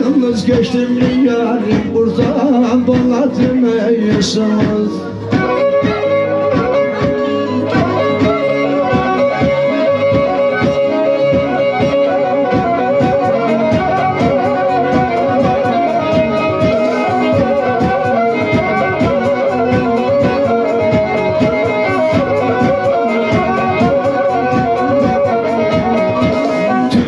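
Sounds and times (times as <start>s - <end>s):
bowed string folk melody: 0.0s - 27.0s
steady beat: 0.0s - 27.0s.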